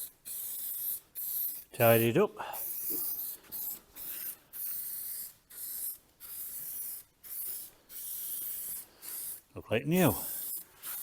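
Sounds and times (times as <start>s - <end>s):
aerosol spray paint hissing: 0.0s - 9.5s, 10.1s - 11.0s.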